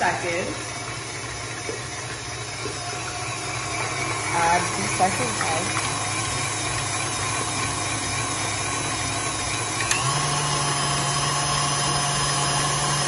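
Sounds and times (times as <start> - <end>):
stand mixer motor running: 0.0 - 13.0.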